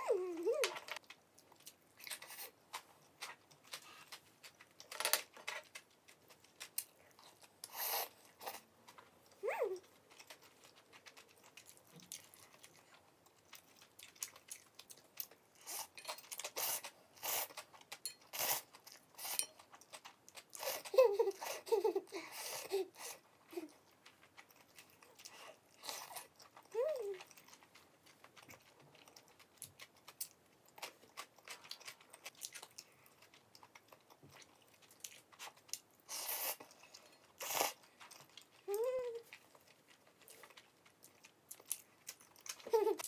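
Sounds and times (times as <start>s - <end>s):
chewing and mouth sounds: 5.5s - 21.5s, 22.9s - 43.0s.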